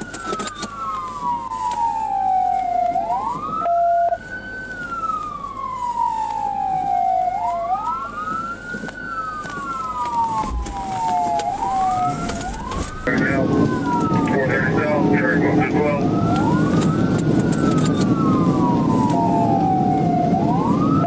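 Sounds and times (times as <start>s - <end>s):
police siren wailing: 0.0s - 21.0s.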